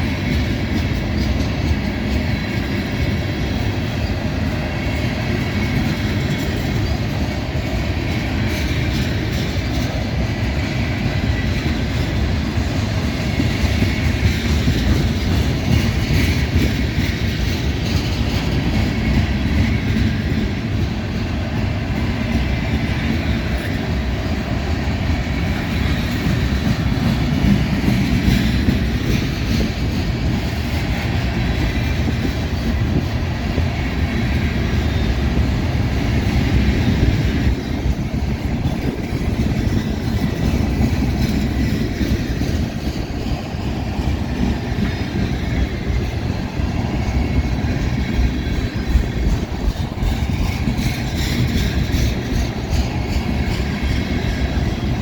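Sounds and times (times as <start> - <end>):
freight train rumbling past: 0.0 - 55.0
wheels clattering on rails: 0.0 - 55.0.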